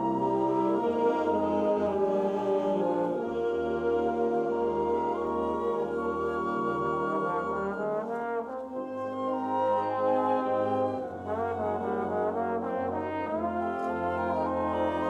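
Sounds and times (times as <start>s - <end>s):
trombones: 0.0s - 15.0s.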